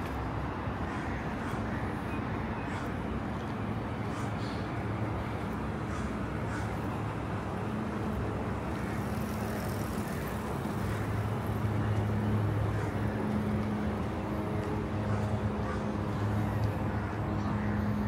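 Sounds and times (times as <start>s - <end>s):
cars passing: 0.0s - 18.0s.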